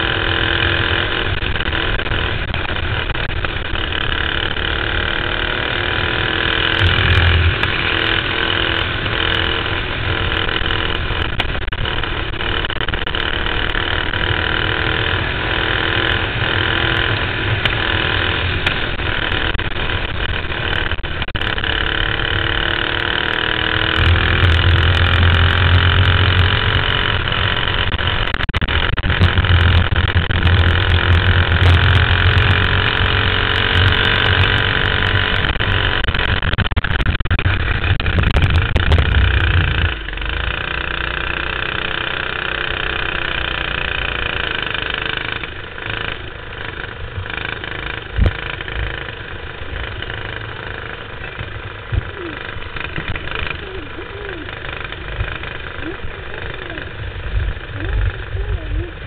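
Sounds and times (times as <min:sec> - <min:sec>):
chassis rumble and rattle: 0:00.0 - 0:59.0
kart engine at racing speed: 0:00.0 - 0:59.0.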